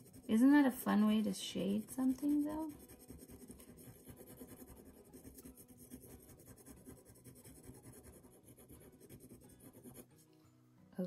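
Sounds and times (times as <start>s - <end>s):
pen scribbling on paper: 0.0s - 10.1s.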